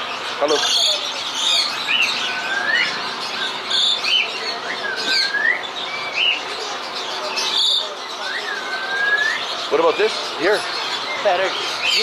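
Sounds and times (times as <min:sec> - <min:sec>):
birds squawking harshly: 0:00.0 - 0:12.0
birds whistling swooping notes: 0:00.0 - 0:12.0.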